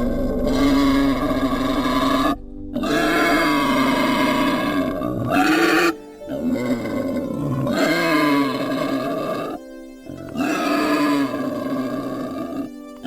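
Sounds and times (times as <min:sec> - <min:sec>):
wild boar calling: 0:00.0 - 0:09.6, 0:10.2 - 0:12.7.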